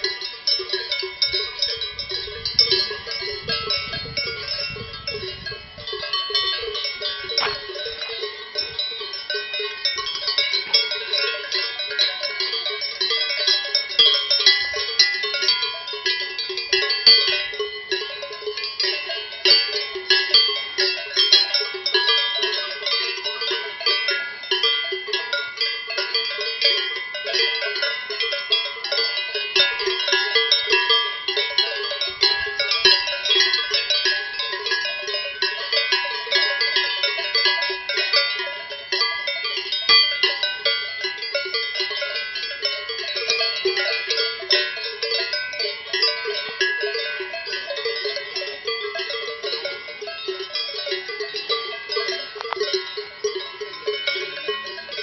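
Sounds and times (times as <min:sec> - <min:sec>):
cowbells clanging: 0:00.0 - 0:55.0.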